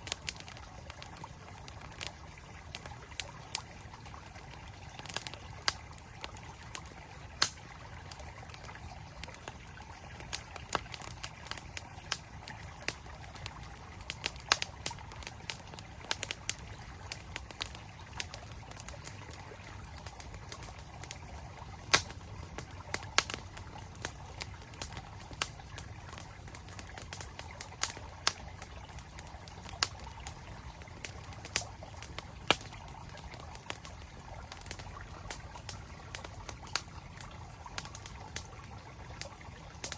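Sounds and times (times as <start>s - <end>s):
campfire crackling and popping: 0.0s - 39.9s
flowing stream: 0.0s - 39.9s.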